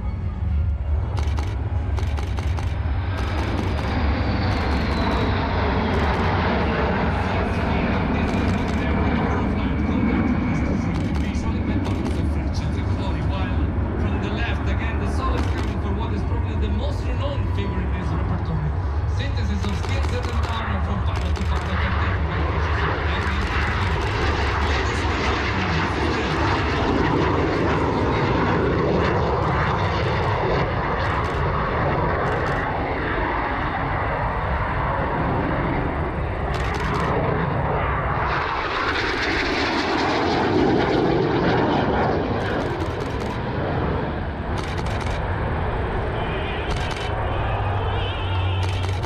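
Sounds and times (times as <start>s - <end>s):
jets flying past: 0.7s - 49.0s.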